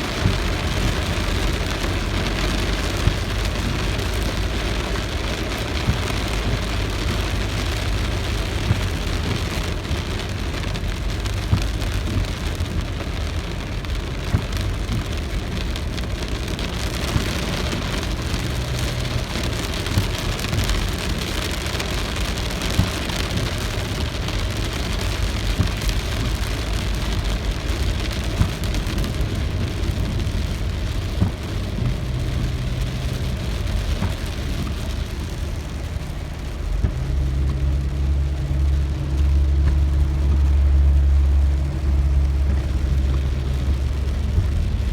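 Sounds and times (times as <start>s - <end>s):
low rumble: 0.0s - 44.9s
steady rain hissing: 0.0s - 44.9s.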